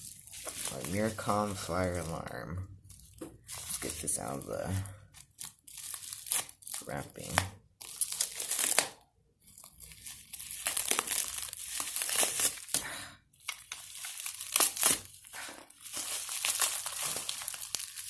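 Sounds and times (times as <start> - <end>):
packaging crinkling and tearing: 0.0 - 18.0.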